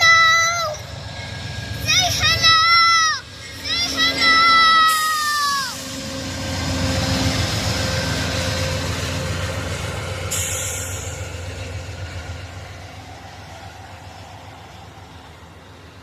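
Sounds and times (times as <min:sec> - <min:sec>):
train rumbling past on rails: 0:00.0 - 0:16.0.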